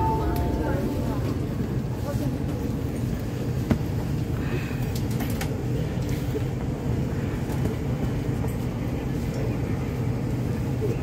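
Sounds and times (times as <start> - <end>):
train carriage rumble: 0.0 - 11.0.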